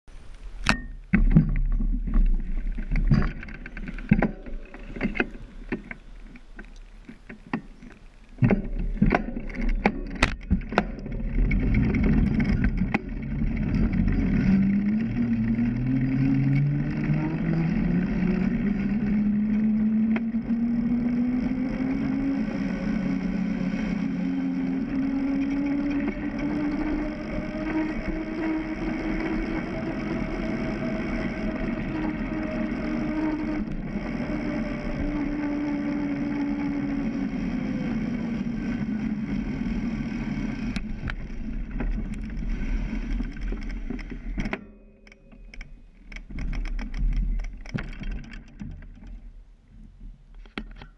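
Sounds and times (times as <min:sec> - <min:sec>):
hum: 0:00.0 - 0:50.9
bike tyres on asphalt: 0:00.1 - 0:49.2.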